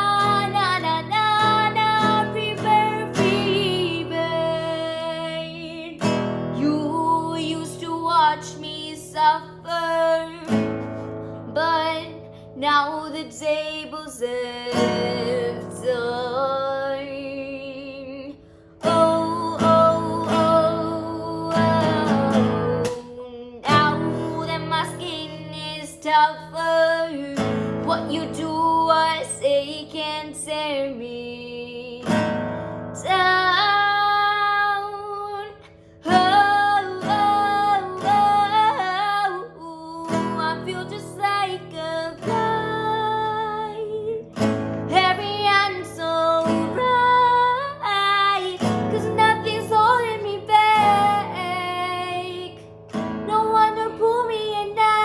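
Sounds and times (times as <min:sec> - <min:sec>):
woman singing: 0:00.0 - 0:55.0.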